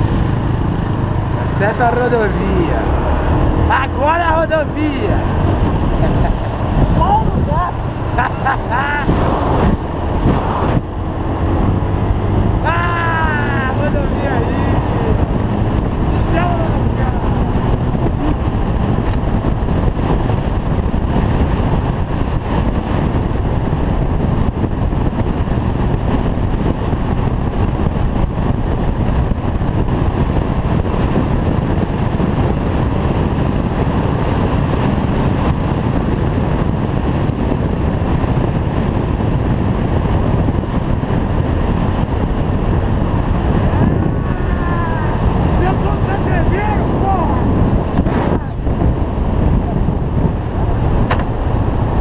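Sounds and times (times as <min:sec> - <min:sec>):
motorcycle engine running: 0:00.0 - 0:52.0
wind rushing on microphone: 0:00.0 - 0:52.0.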